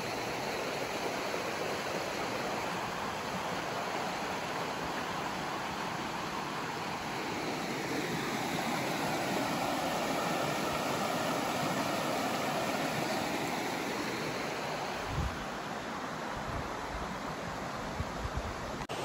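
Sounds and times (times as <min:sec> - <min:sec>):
creek water rushing over rocks: 0:00.0 - 0:19.0.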